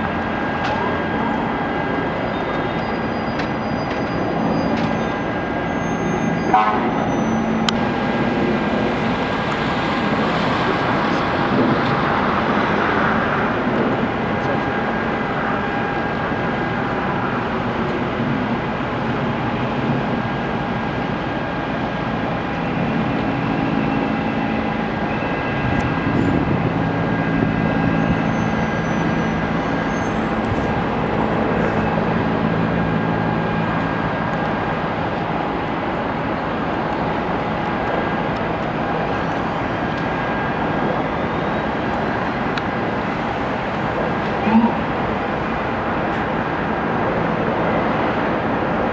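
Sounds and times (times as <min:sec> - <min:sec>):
aircraft engines droning: 0:00.0 - 0:48.9
high whine: 0:00.0 - 0:48.9
low engine hum: 0:00.0 - 0:48.9.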